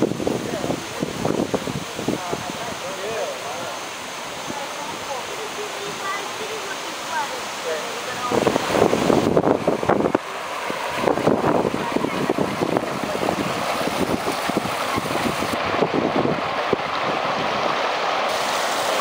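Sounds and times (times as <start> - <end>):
floodwater gushing and splashing: 0.0 - 19.0.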